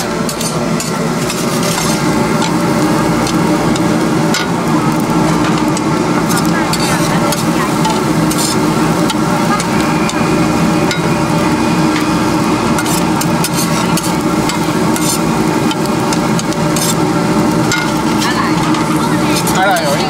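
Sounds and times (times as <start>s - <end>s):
food sizzling: 0.0s - 20.0s
metal spatula scraping a wok: 0.2s - 11.2s, 11.9s - 20.0s.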